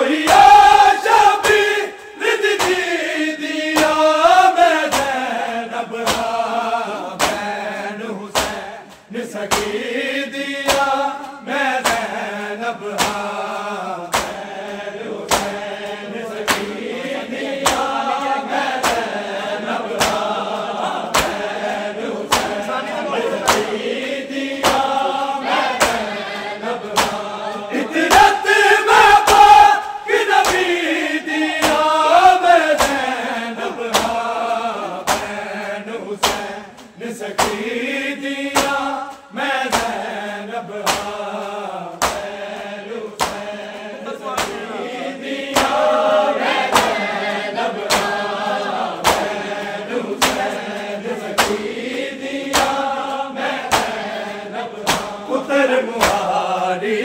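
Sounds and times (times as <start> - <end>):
crowd of men chanting: 0.0 - 57.0
hands slapping bare chests: 0.2 - 22.7, 23.3 - 44.7, 45.3 - 56.5.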